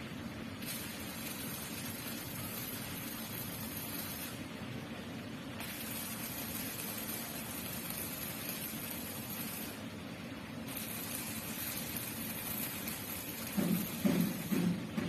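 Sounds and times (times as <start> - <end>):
arc welding hiss: 0.0 - 4.6, 5.5 - 10.0, 10.6 - 15.0
steady low hum: 0.0 - 15.0.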